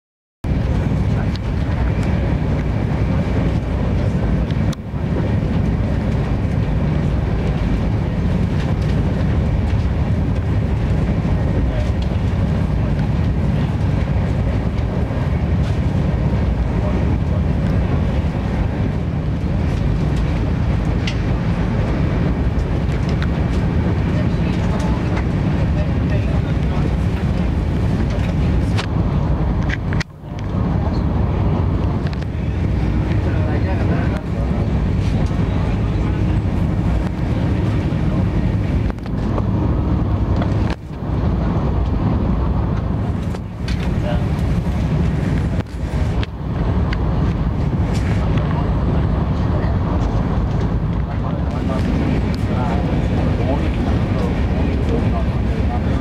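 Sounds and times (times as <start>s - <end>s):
train coach rumbling on rails: 0.4s - 56.0s.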